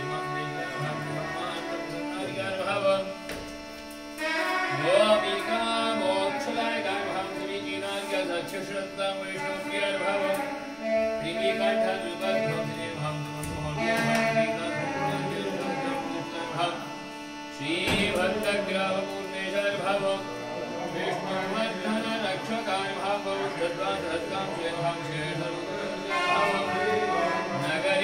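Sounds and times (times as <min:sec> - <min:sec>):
devotional singing: 0:00.0 - 0:28.0.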